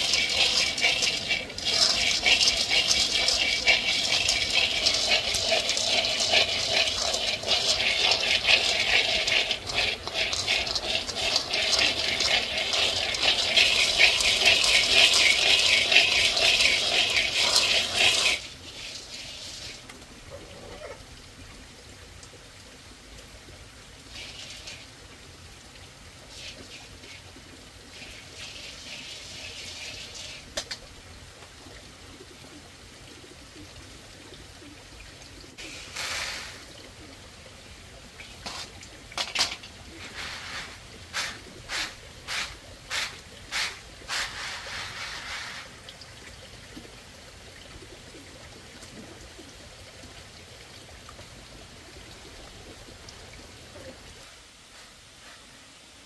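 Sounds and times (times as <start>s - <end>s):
water pouring: 0.0s - 31.8s, 34.2s - 55.6s.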